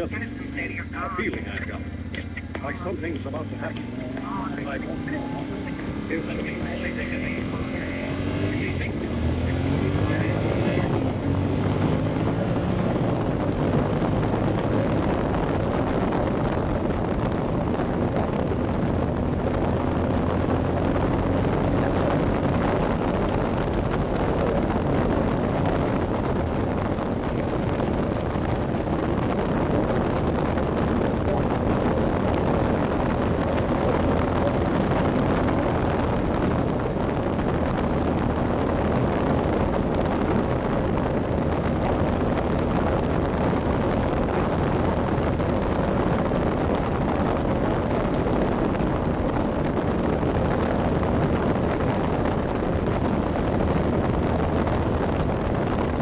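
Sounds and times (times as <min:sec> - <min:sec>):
vehicle engine running: 0:00.0 - 0:56.0
wind buffeting microphone: 0:07.8 - 0:56.0.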